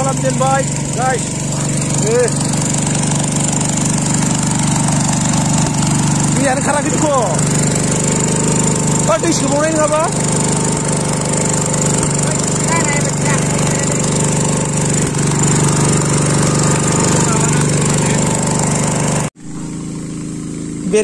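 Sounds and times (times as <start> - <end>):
water pump engine running: 0.0 - 21.0.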